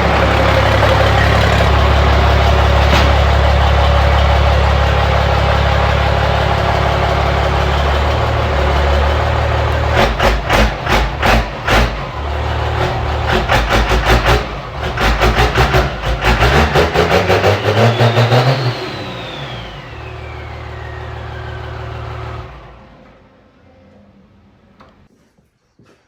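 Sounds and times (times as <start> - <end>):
truck engine idling and revving: 0.0 - 23.5.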